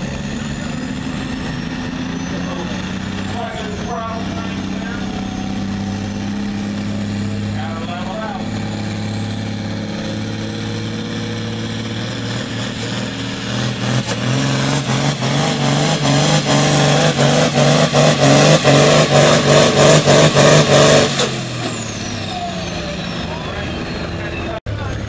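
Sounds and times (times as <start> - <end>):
tractor diesel engine running hard: 0.0 - 25.0.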